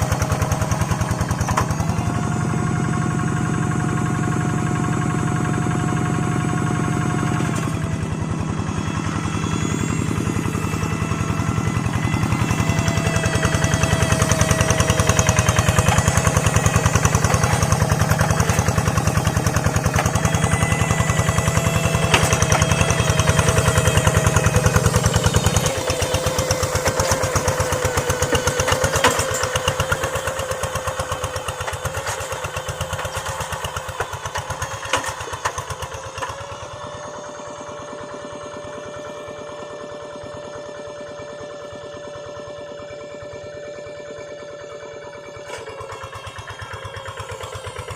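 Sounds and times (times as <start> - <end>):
small engine chugging: 0.0 - 47.9.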